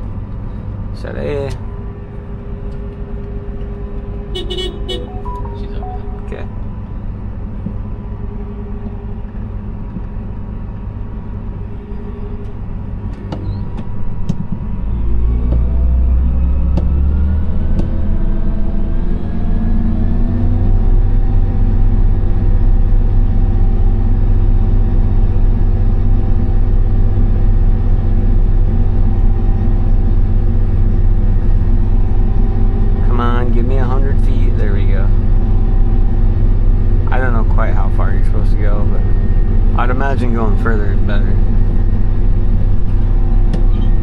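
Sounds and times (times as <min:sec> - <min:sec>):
combine diesel engine rumbling: 0:00.0 - 0:44.0
engine whine climbing: 0:00.0 - 0:44.0.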